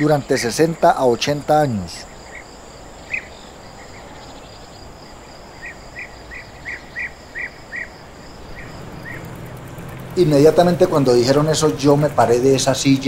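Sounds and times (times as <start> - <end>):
bird chirping: 0.0 - 13.0
insects droning: 0.0 - 13.0.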